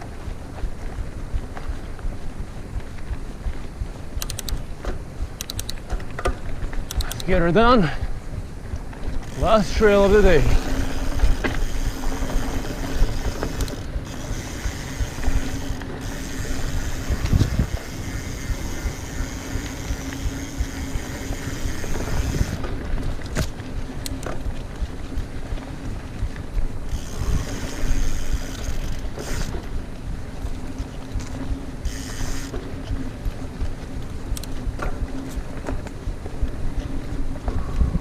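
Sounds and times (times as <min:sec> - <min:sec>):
bike tyres rumbling on dirt: 0:00.0 - 0:38.0
wind on microphone: 0:00.0 - 0:38.0
steady hum: 0:06.9 - 0:38.0.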